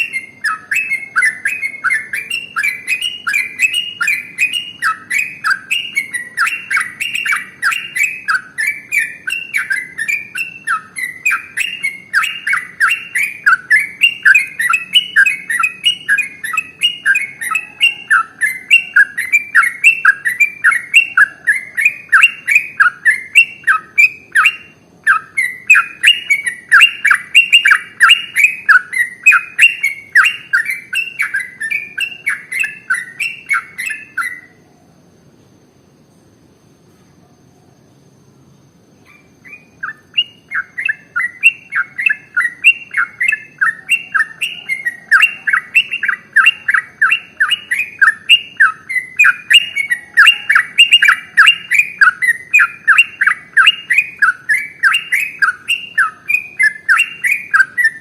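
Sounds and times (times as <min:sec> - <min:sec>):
bird chattering song: 0:00.0 - 0:34.9, 0:38.7 - 0:58.0.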